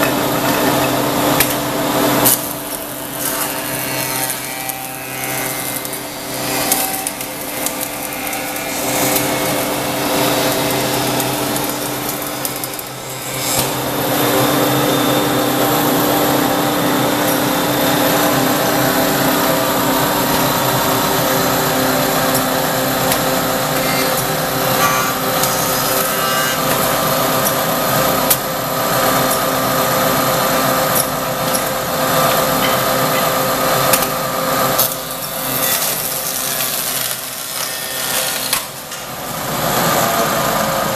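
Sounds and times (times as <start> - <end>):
machine milling wood: 0.0 - 40.9.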